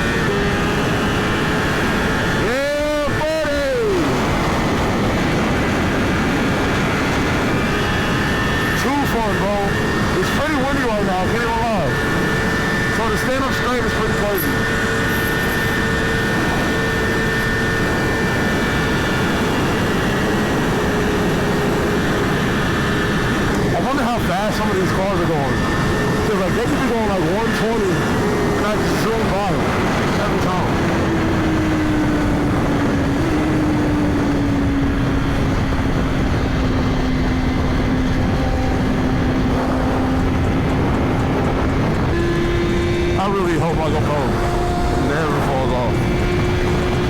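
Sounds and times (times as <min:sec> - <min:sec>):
motorcycle engine droning: 0:00.0 - 0:47.0
wind rushing over microphone: 0:00.0 - 0:47.0.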